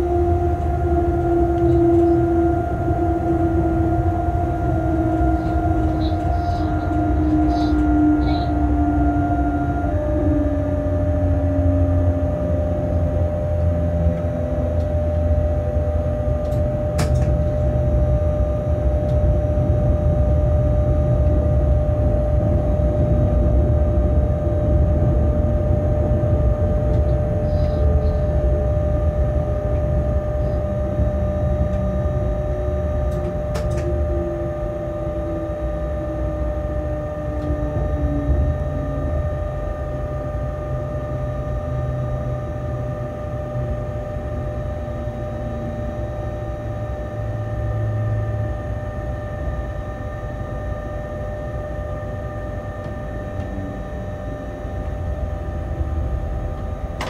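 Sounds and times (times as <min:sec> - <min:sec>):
faint falling whine: 0:00.0 - 0:57.0
locomotive rumble and hum: 0:00.0 - 0:57.0.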